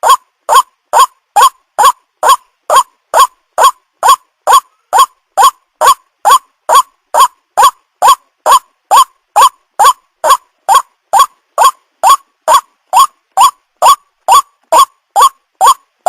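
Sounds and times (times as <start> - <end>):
waterhen calling: 0.0 - 15.8.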